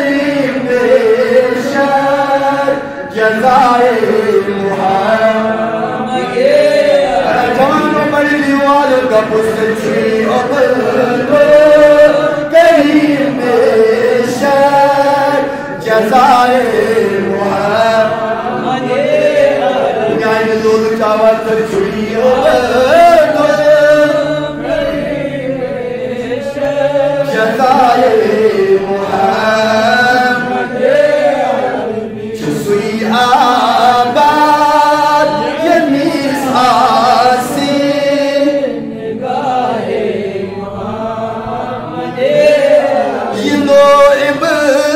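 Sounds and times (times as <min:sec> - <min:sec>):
man chanting: 0:00.0 - 0:44.9.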